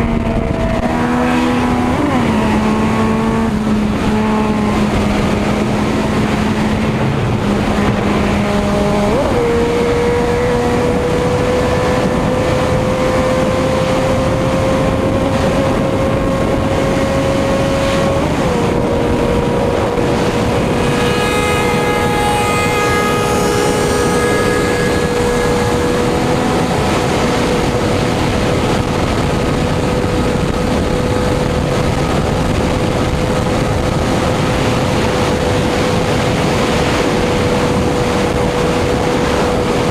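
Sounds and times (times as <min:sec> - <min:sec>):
motorcycle engine at high speed: 0:00.0 - 0:39.9
wind rush: 0:00.0 - 0:39.9.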